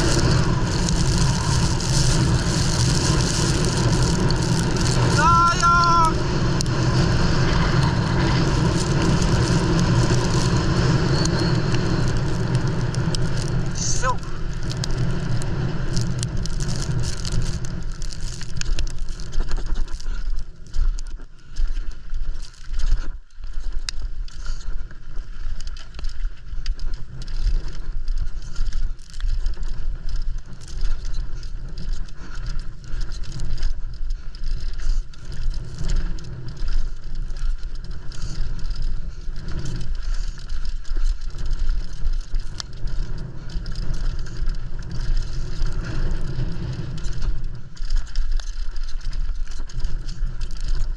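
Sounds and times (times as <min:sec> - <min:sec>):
bike chain and frame rattling: 0:00.0 - 0:50.9
bike tyres crunching over stones: 0:00.0 - 0:50.9
wind rumble on microphone: 0:00.0 - 0:50.9.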